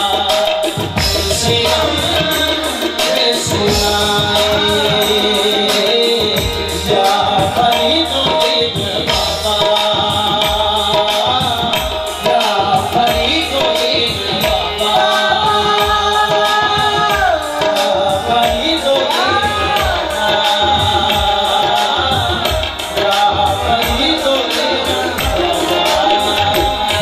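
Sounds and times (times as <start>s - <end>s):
tabla drumming: 0.0s - 27.0s.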